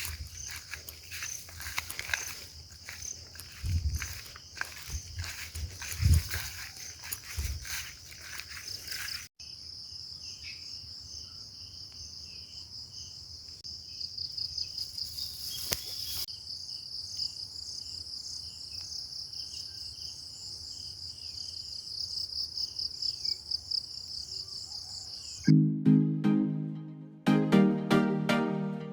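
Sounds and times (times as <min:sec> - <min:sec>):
insect chirping: 0:00.0 - 0:25.5
insects trilling: 0:00.0 - 0:25.5.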